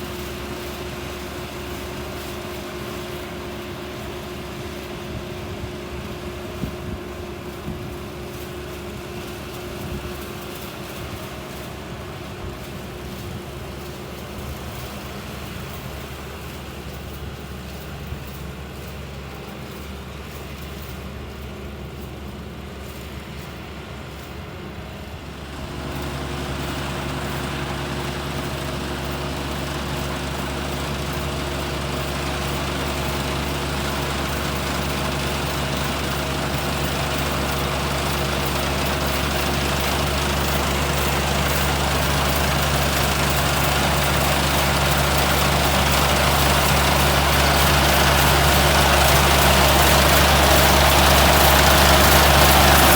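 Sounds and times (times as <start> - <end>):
combine harvester engine running: 0.0 - 52.9.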